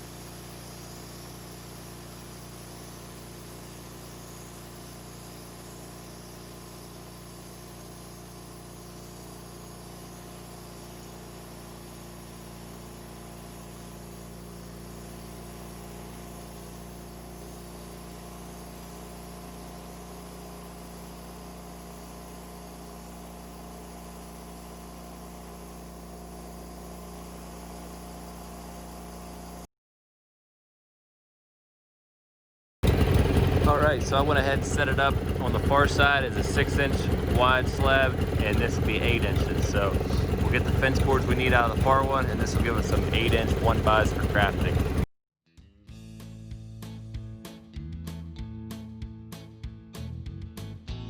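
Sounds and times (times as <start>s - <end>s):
sawmill engine running: 0.0s - 29.7s, 32.8s - 45.1s.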